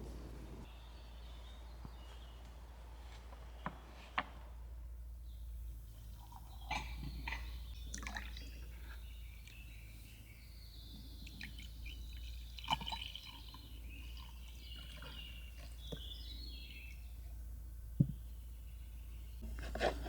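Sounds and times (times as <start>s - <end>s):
small birds chirping: 0.0s - 19.5s.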